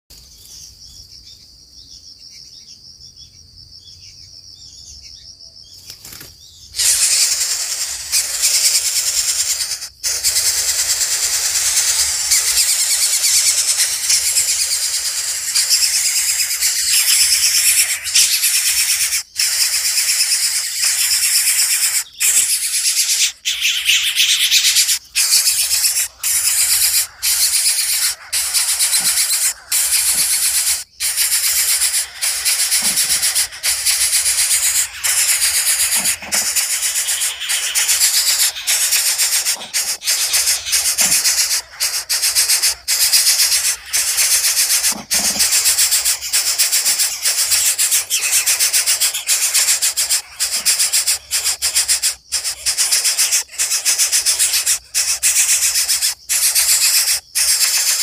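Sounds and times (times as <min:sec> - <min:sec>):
nestlings hissing begging calls: 0:06.1 - 0:58.0.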